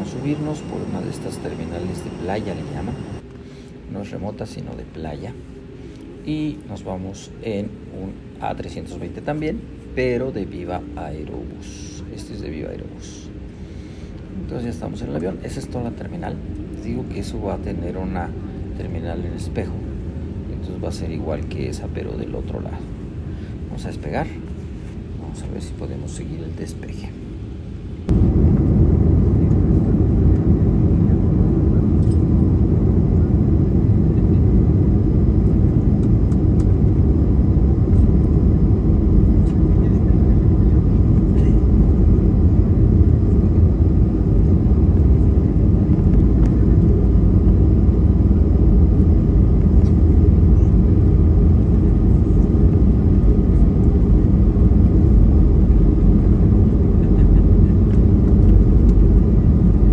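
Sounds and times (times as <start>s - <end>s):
airliner cabin rumble: 0.0s - 59.9s
faint steady whine: 0.0s - 59.9s.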